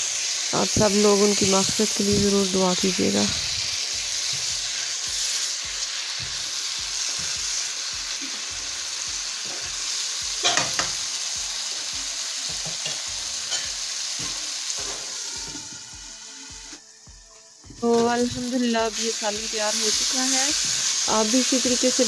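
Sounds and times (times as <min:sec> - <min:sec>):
curry sizzling in a wok: 0:00.0 - 0:22.0.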